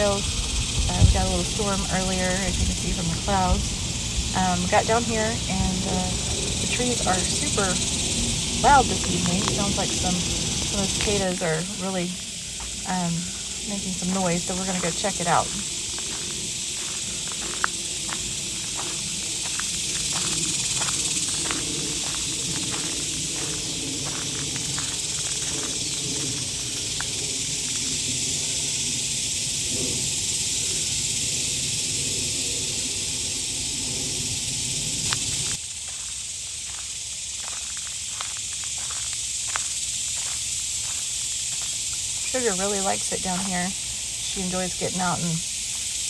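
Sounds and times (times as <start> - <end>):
cicadas buzzing: 0.0 - 46.0.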